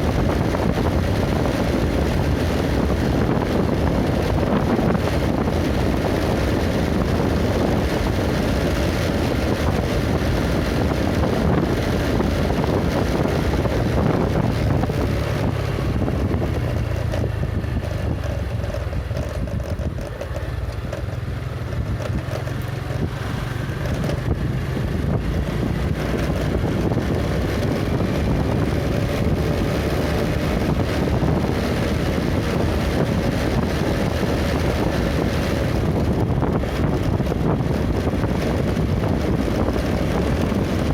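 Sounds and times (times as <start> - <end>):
vehicle engine and road noise: 0.0 - 40.9
wind buffeting microphone: 0.0 - 40.9.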